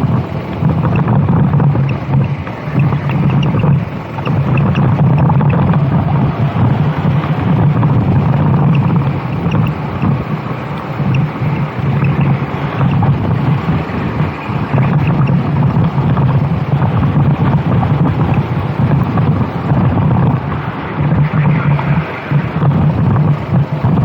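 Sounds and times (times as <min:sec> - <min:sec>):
kart engine running hard: 0:00.0 - 0:24.0
wind buffeting microphone: 0:00.0 - 0:24.0.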